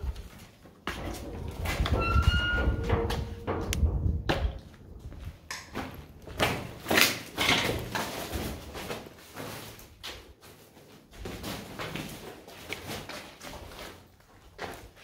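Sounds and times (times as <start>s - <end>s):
footsteps crunching over rubble: 0.0s - 15.0s.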